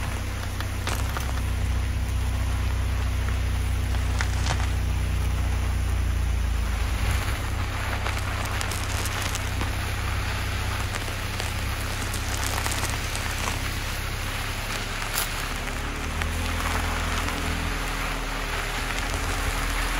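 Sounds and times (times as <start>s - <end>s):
low rumble: 0.0s - 19.9s
tyres crunching over gravel: 0.0s - 19.9s.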